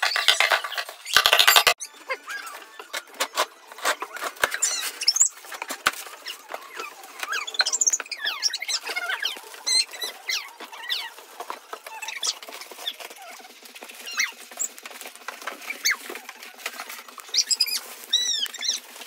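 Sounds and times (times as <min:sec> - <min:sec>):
styrofoam squeaking: 0:02.2 - 0:19.0.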